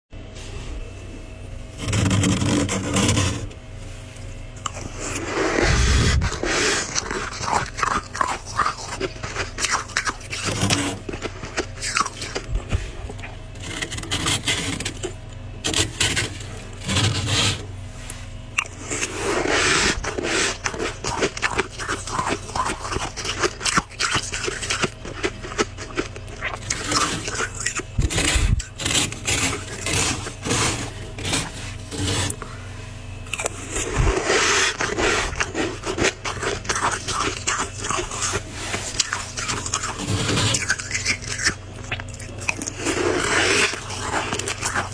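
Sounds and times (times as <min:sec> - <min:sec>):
plastic spoon scraping frost: 0:01.7 - 0:32.6, 0:33.2 - 0:44.9.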